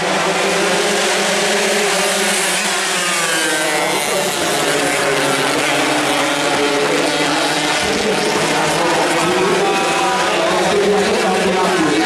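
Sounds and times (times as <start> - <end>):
racing motorcycle engines droning: 0.0 - 12.0.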